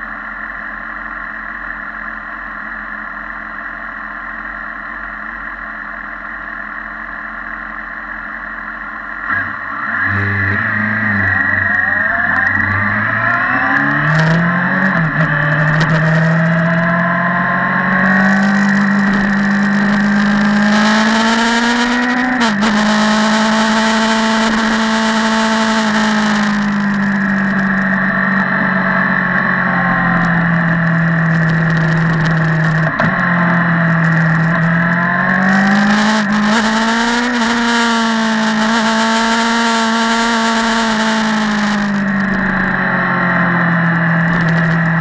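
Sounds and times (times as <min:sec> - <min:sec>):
motorcycle engine accelerating: 0:06.5 - 0:45.0.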